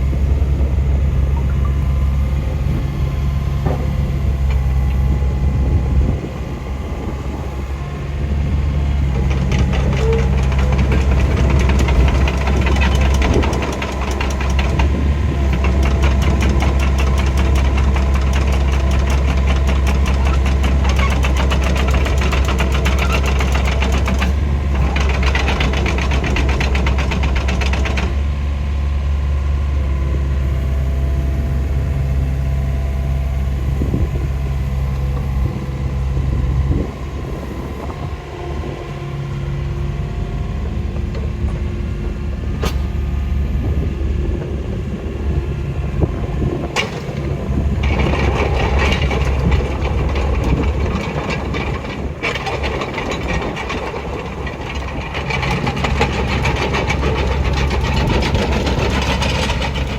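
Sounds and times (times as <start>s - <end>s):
excavator diesel engine clattering: 0.0s - 59.9s.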